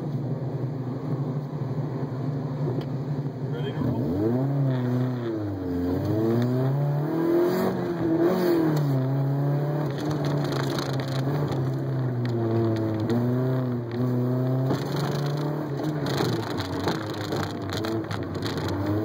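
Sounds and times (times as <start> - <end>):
car engine revving: 2.6 - 19.0.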